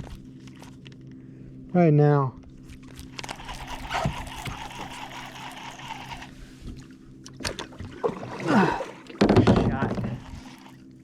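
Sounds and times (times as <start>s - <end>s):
water sloshing and trickling: 0.0s - 1.2s, 2.4s - 11.0s.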